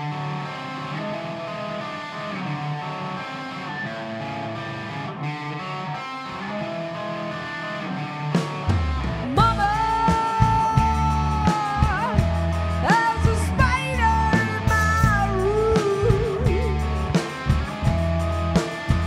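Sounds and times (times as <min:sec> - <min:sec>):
electric guitar riff: 0:00.0 - 0:19.0
rock band playing: 0:00.0 - 0:19.0.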